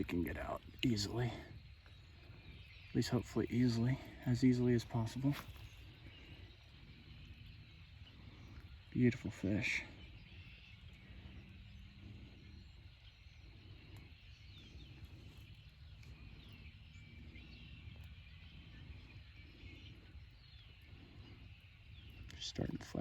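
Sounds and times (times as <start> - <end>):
bird calling: 0.0 - 23.0.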